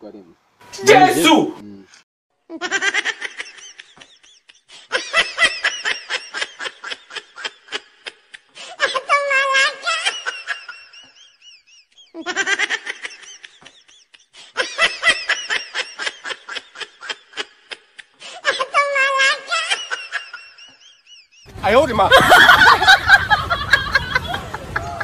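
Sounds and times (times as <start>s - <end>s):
high-pitched laughter: 2.5s - 21.5s, 22.1s - 25.0s.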